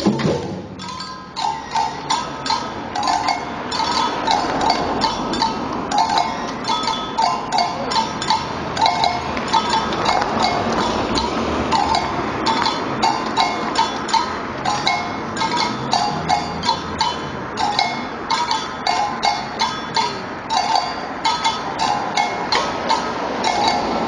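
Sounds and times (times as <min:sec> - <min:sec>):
metal bell strikes: 0:00.0 - 0:24.0
percussion band playing: 0:00.0 - 0:24.0.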